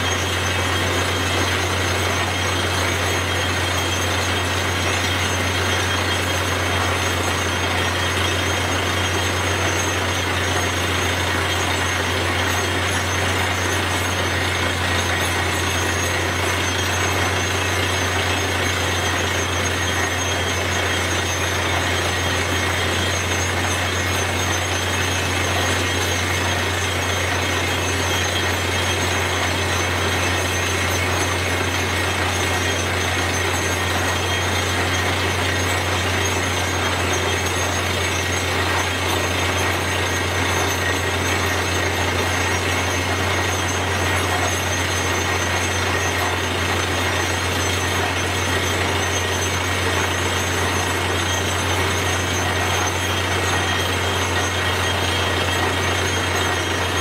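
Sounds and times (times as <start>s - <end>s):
drilling rig engine humming: 0.0s - 57.0s.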